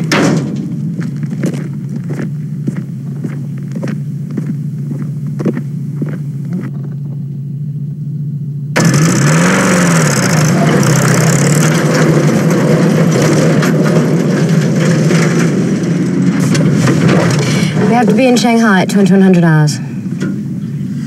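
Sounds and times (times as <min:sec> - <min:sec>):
jeep engine idling and revving: 0:00.7 - 0:17.8.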